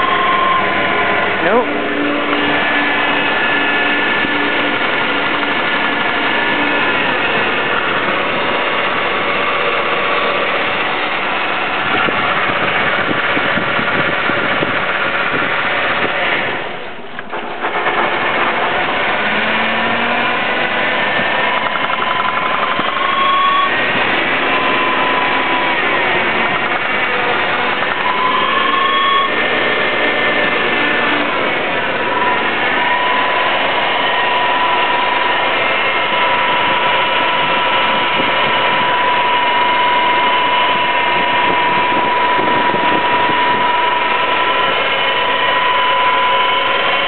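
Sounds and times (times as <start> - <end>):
car engine running: 0.0 - 47.0
high-pitched engine whine: 0.0 - 47.0.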